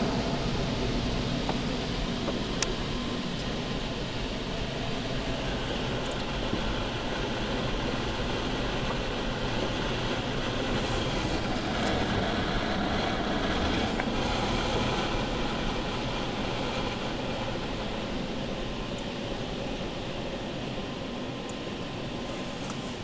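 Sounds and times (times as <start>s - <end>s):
car wash machinery rushing: 0.0s - 23.0s.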